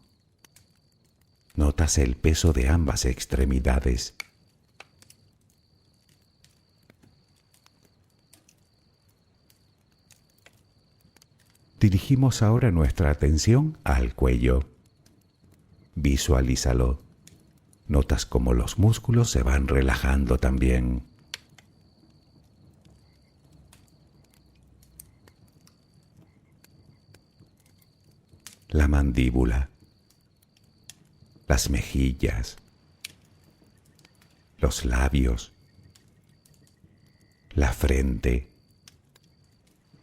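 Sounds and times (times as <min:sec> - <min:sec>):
bonfire crackling: 0:00.0 - 0:40.0
campfire pops and snaps: 0:00.0 - 0:40.0
low hiss: 0:00.0 - 0:40.0
low rumble of flames: 0:00.0 - 0:40.0.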